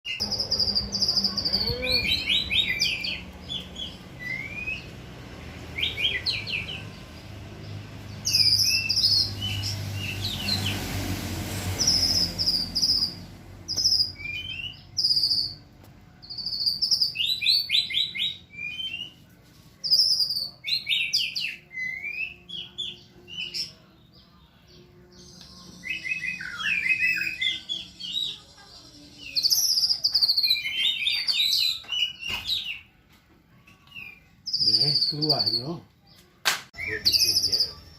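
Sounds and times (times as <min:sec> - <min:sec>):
songbird singing: 0:00.1 - 0:37.9.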